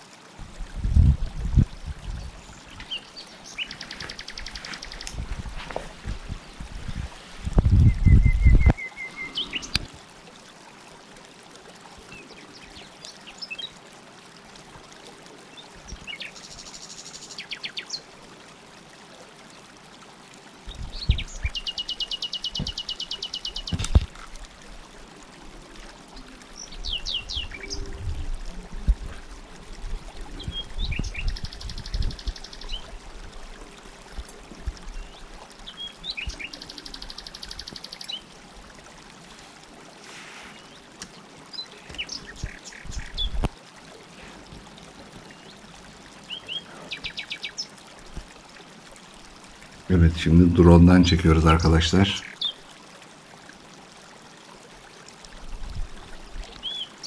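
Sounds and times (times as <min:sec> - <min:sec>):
songbirds chirping: 0:02.0 - 0:09.9, 0:11.9 - 0:18.2, 0:19.4 - 0:52.7, 0:56.0 - 0:57.0.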